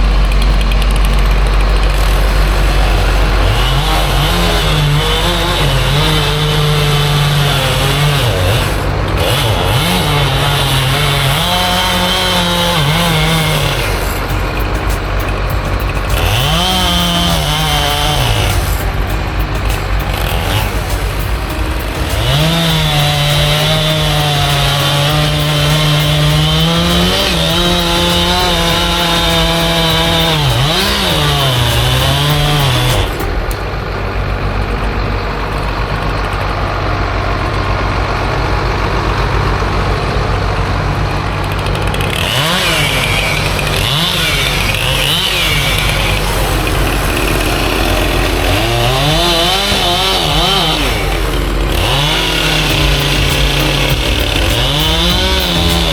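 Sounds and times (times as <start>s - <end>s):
chainsaw cutting at high revs: 0.1s - 33.5s, 41.4s - 55.9s.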